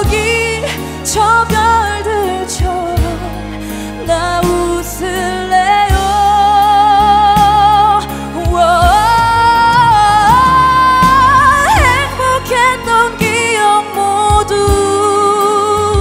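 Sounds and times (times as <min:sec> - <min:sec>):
backing track accompaniment: 0:00.0 - 0:16.0
woman singing a ballad: 0:00.0 - 0:16.0.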